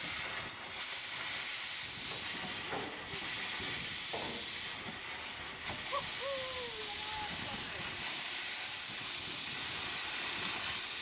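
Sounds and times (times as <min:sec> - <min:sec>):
steam winch hissing: 0:00.0 - 0:11.0.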